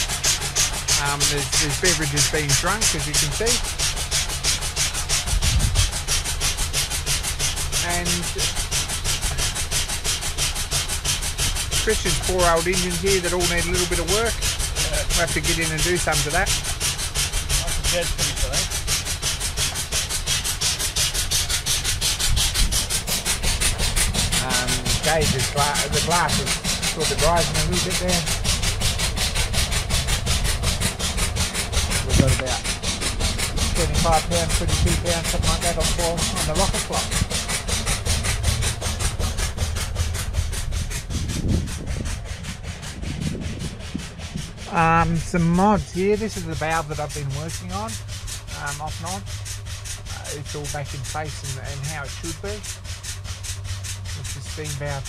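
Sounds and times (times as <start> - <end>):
steady low rumble: 0.0 - 55.0
steam engine chuffing: 0.0 - 55.0.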